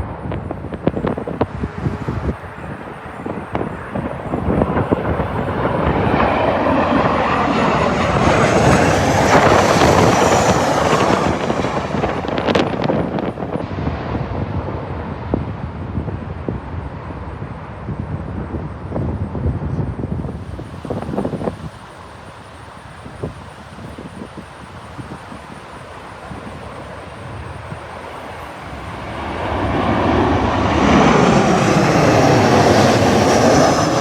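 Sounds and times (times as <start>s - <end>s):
jet plane passing overhead: 0.0s - 34.0s
wind buffeting microphone: 0.0s - 34.0s.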